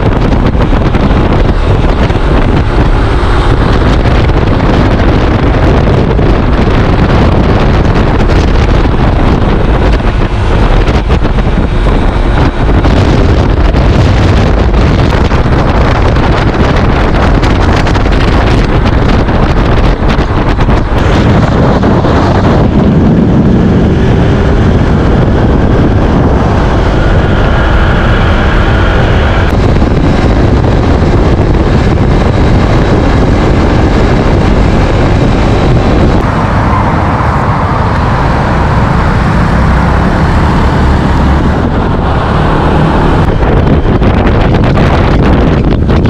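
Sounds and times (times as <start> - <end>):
scooter road noise and engine: 0.0 - 46.0
wind rushing over microphone: 0.0 - 46.0.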